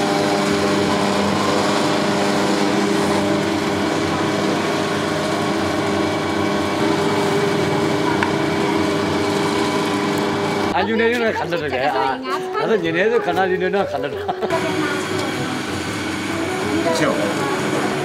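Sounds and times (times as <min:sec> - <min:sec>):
potter's wheel motor hum: 0:00.0 - 0:18.0.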